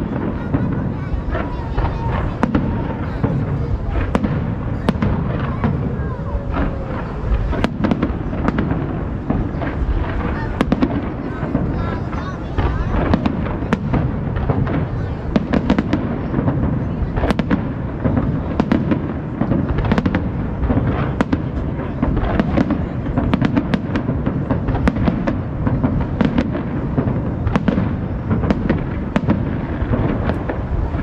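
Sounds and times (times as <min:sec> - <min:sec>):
fireworks cracks: 0:00.0 - 0:31.0
fireworks rumble: 0:00.0 - 0:31.0.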